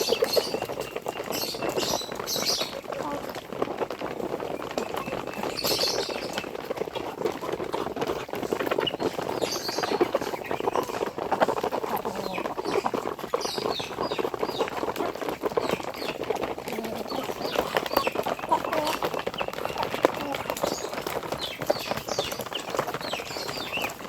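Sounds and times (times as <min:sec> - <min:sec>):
pattering clicks of poultry flock: 0:00.0 - 0:24.0
poultry calls: 0:00.0 - 0:24.0.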